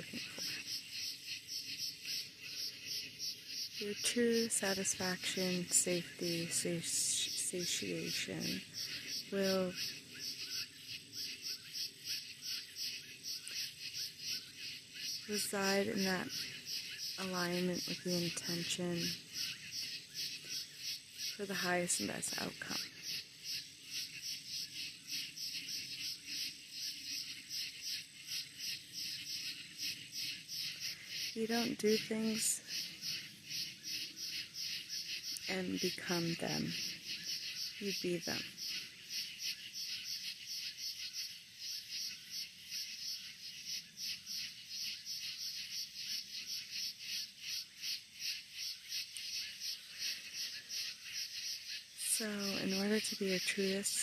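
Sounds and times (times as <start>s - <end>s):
frogs or insects calling: 0.0s - 54.0s.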